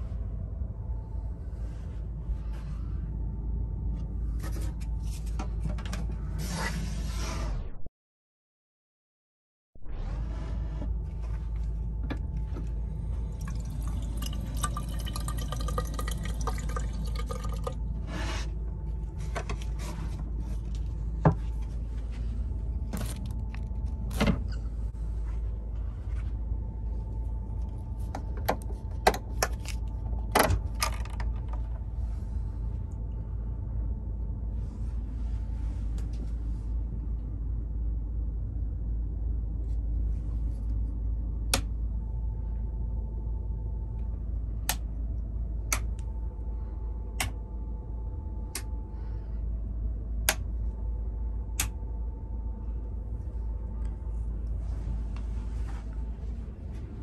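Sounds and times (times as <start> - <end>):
faint steady whine: 0.0 - 7.0, 9.8 - 57.0
steady low rumble: 0.0 - 7.9, 9.8 - 57.0.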